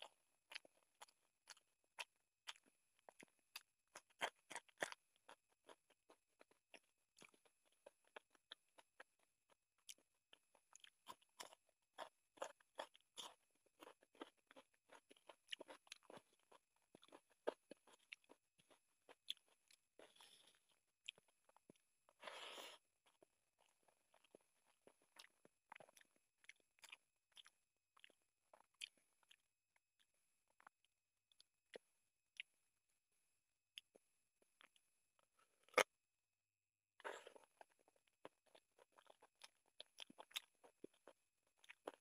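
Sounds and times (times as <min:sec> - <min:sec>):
wet chewing: 0:00.0 - 0:32.5, 0:37.0 - 0:42.0.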